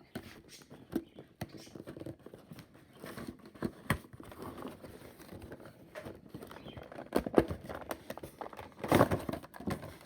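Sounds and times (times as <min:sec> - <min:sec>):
plastic packaging clicks and rustles: 0:00.0 - 0:10.0.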